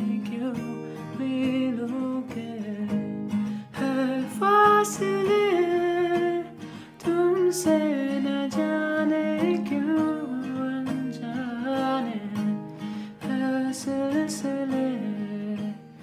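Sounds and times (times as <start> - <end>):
acoustic guitar strumming: 0.0 - 16.0
man singing: 0.0 - 16.0.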